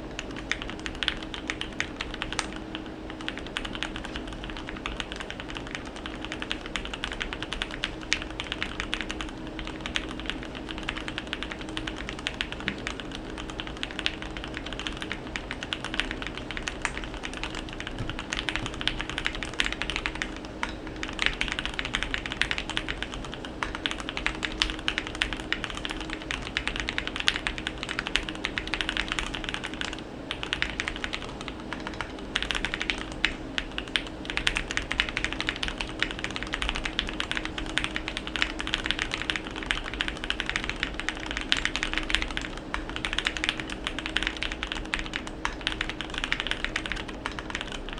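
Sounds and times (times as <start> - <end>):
fast mechanical keyboard typing: 0.0 - 47.9.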